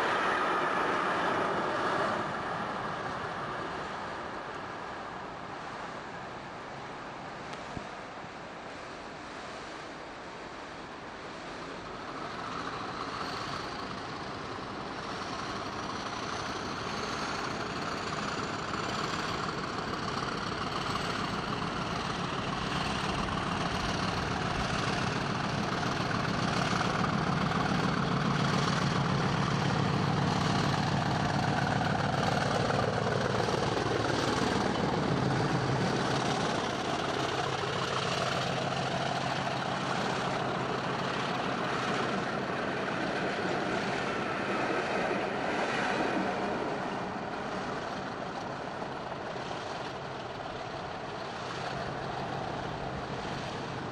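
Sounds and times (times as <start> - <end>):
train coaches rolling on rails: 0.0 - 9.2, 9.8 - 53.9
diesel locomotive engine: 0.0 - 53.9.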